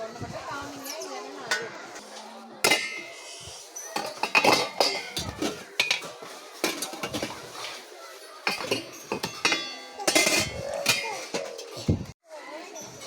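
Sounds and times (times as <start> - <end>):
dishes and kitchenware clattering: 0.7 - 13.0.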